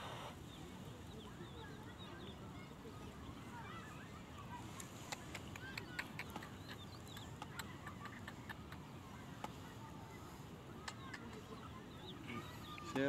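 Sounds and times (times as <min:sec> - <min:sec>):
low outdoor hush: 0:00.0 - 0:13.0
small birds chirping: 0:00.0 - 0:13.0.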